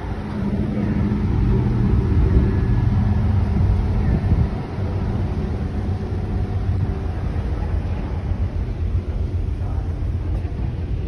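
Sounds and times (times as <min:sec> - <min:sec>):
ship engines droning rumble: 0:00.0 - 0:11.0.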